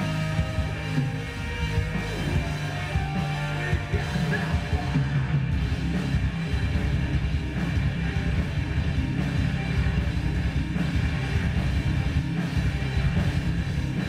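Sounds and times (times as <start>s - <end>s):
rock music with drums: 0.0s - 14.0s.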